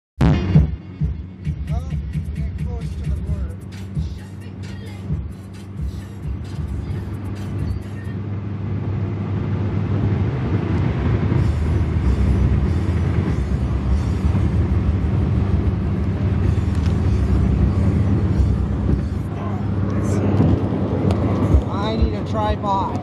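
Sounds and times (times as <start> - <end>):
car cabin road noise: 0.2 - 23.0.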